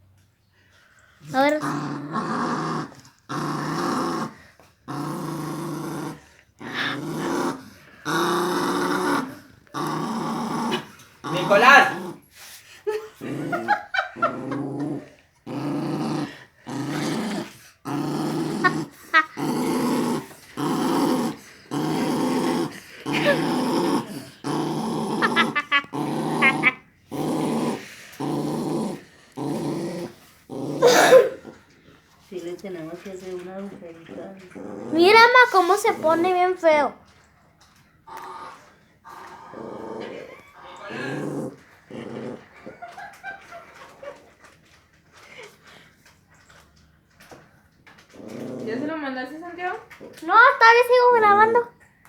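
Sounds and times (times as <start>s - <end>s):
dog growling deeply: 1.2s - 12.3s, 13.2s - 31.8s, 33.0s - 36.9s, 38.1s - 44.3s, 48.0s - 50.6s.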